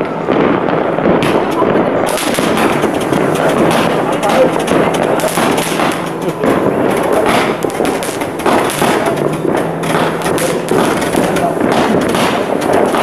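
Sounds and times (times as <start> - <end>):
fireworks crackling and popping: 0.0 - 13.0
heavy firework thuds: 0.0 - 13.0.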